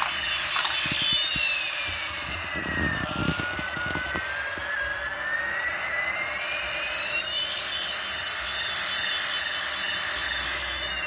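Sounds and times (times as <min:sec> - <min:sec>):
toy jet engine sound effect: 0:00.0 - 0:11.0.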